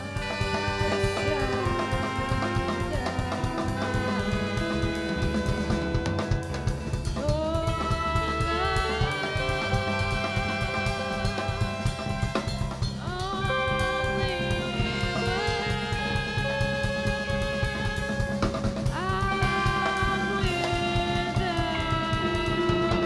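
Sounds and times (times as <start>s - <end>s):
busy drum kit: 0.0s - 23.0s
jazz band playing: 0.0s - 23.0s.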